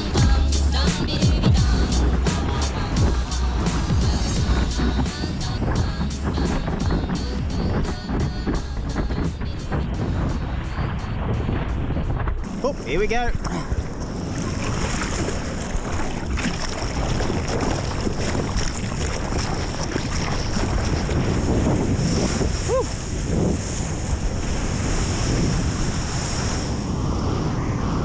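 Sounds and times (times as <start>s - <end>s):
whitewater splashing and rushing: 0.0s - 27.6s
wind buffeting microphone: 0.0s - 28.0s.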